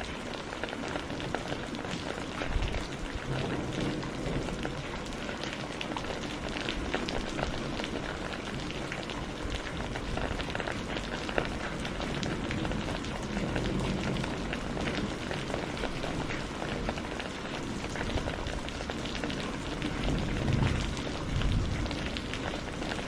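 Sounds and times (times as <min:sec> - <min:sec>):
raindrops ticking on a surface: 0:00.0 - 0:23.0
steady rain falling: 0:00.0 - 0:23.0.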